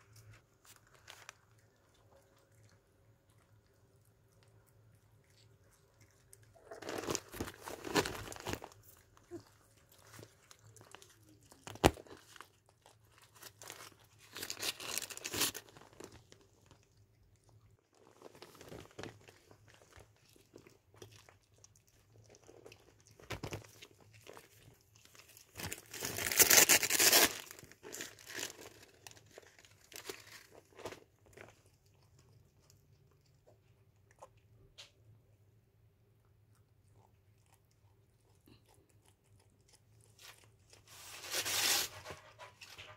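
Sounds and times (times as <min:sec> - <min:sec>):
cat chewing moist crunching: 0:00.0 - 0:26.1, 0:27.5 - 0:41.4.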